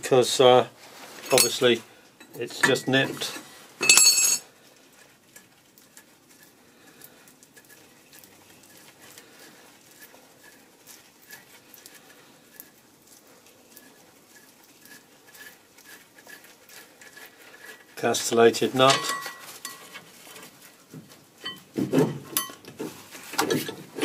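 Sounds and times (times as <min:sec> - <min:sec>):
light metallic clicks and scrapes: 0:00.9 - 0:24.0.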